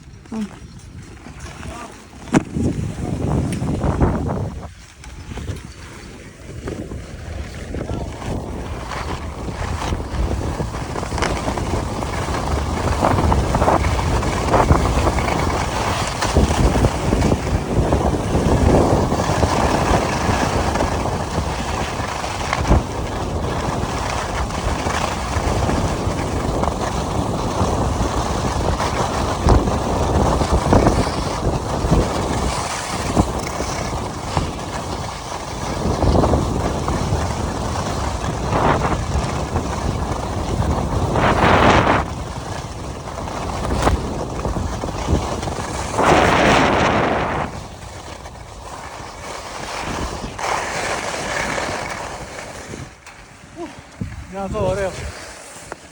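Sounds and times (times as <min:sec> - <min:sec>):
wind rushing over microphone: 0:00.0 - 0:55.9
ski edges scraping on snow: 0:00.2 - 0:55.9.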